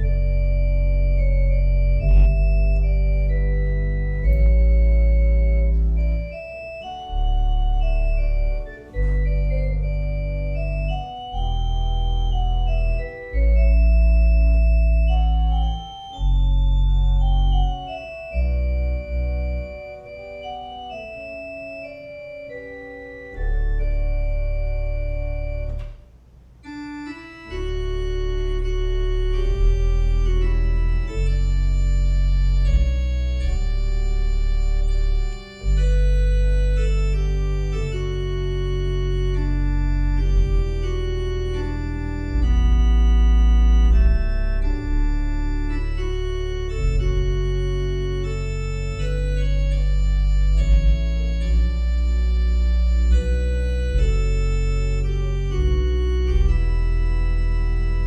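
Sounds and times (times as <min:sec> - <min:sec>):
deep organ bass pedal notes: 0:00.0 - 0:58.0
organ playing chords: 0:00.0 - 0:58.0.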